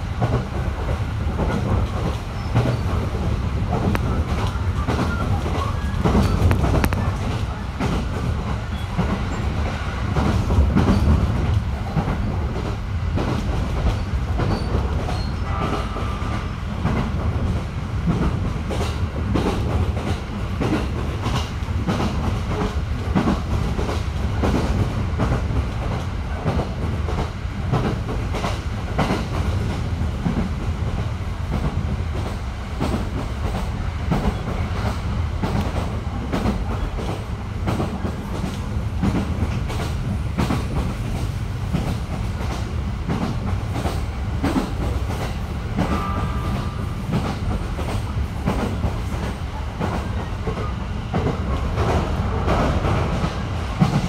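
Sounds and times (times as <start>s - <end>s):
train rumbling from inside carriage: 0.0s - 54.0s.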